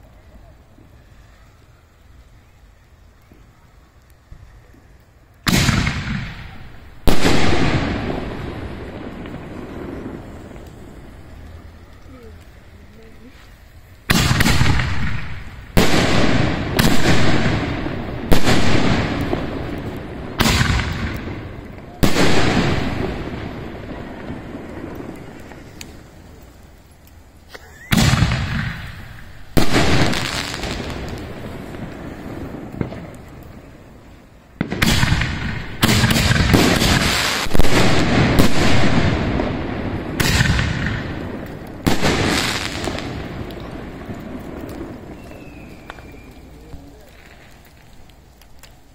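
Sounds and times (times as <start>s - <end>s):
firework shells bursting: 5.3s - 48.9s.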